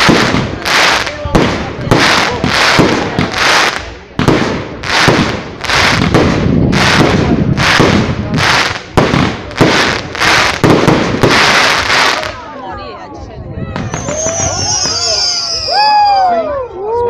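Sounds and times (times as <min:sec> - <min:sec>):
fireworks banging and crackling: 0:00.0 - 0:12.6, 0:13.7 - 0:15.7.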